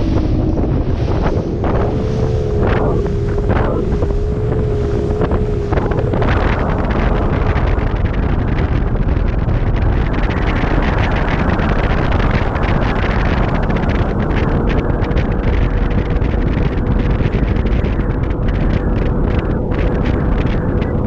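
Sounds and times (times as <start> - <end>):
boat slapping water: 0.0 - 21.0
outboard engine whine: 0.0 - 21.0
water noise: 0.0 - 21.0
wind buffeting microphone: 0.0 - 21.0.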